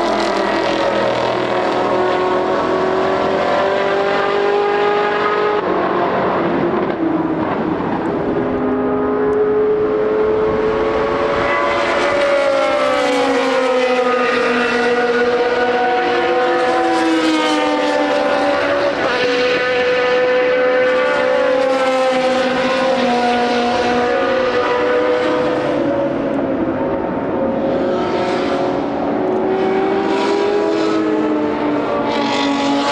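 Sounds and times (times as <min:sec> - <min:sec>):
racing car engines passing: 0:00.0 - 0:32.9.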